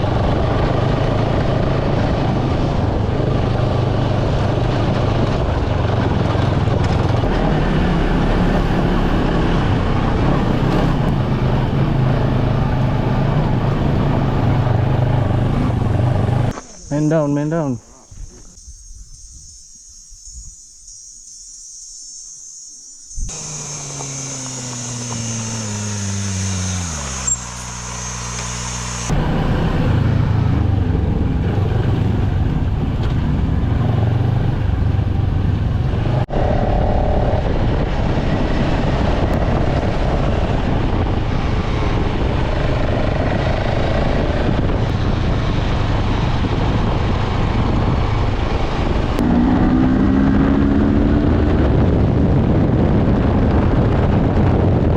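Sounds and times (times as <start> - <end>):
motorcycle engine revving: 0.0 - 16.9, 23.2 - 54.9
wind noise: 0.0 - 27.5, 29.1 - 54.9.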